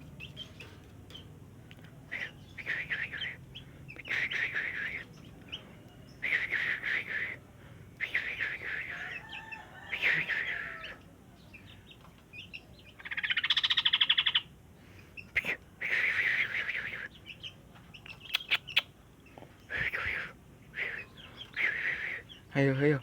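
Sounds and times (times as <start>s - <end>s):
bulbul chirpy calls: 2.0s - 7.4s, 8.0s - 23.0s.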